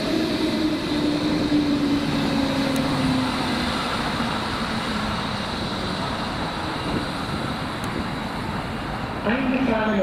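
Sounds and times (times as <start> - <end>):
electric train humming tone: 0.0 - 9.2
train running on rails: 0.0 - 10.0.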